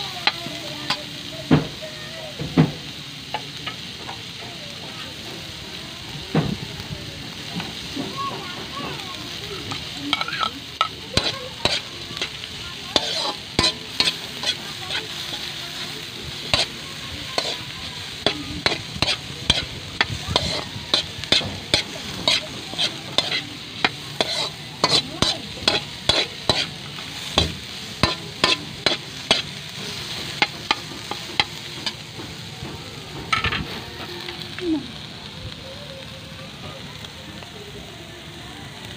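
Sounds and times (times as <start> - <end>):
sizzle of frying: 0.0 - 38.9.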